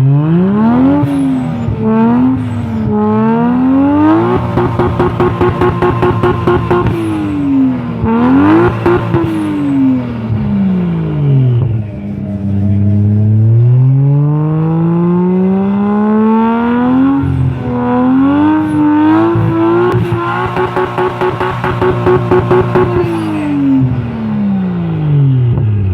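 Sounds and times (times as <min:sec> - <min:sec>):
car engine revving: 0:00.0 - 0:12.1, 0:13.2 - 0:25.0.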